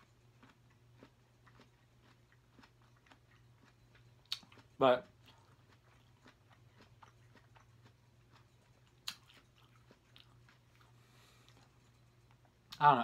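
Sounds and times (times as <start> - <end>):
chewing fruit: 0.0 - 13.0
faint low hum: 0.0 - 13.0.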